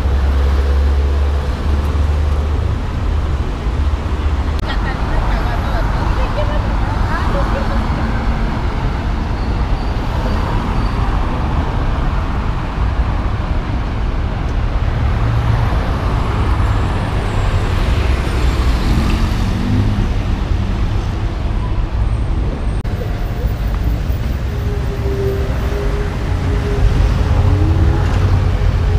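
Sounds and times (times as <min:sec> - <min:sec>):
road traffic rumble: 0:00.0 - 0:28.9.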